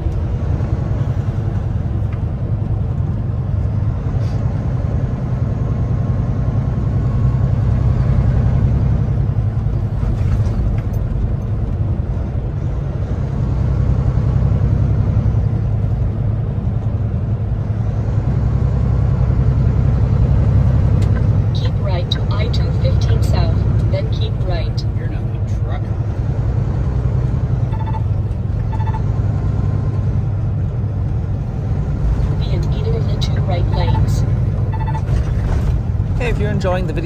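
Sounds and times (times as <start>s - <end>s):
truck diesel engine drone: 0.0s - 37.0s.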